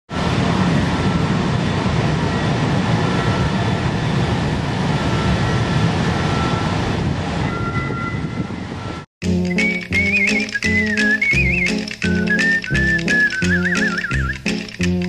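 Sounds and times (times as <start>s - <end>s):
wheels rumbling on rails: 0.1s - 15.0s.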